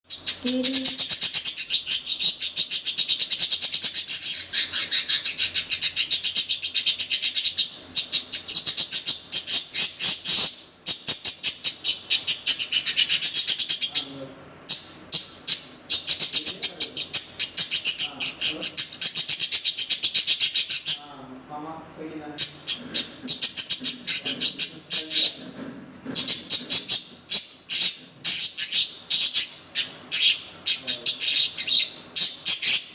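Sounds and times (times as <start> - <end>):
budgerigar chirping: 0.1 - 21.1, 22.4 - 25.4, 26.2 - 32.9.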